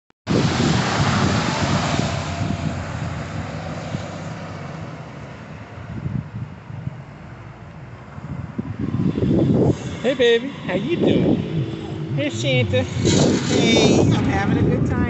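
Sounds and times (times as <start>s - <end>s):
bus diesel engine passing: 0.3s - 15.0s.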